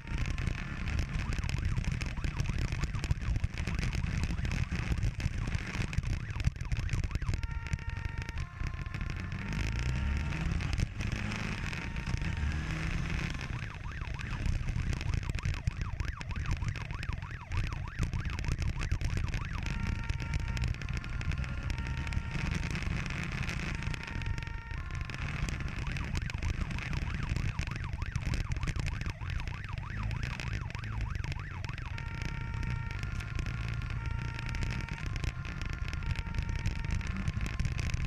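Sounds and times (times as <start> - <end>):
police siren two-tone and warble: 0.0 - 38.0.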